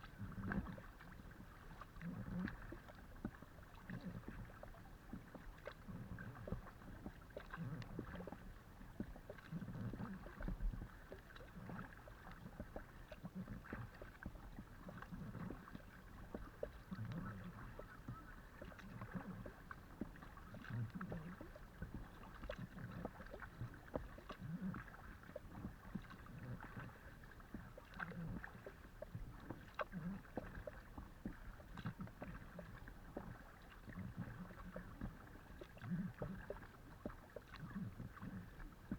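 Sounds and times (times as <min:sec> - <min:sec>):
paddle splashes and drips: 0:00.0 - 0:38.9
water rushing against kayak hull: 0:00.0 - 0:38.9.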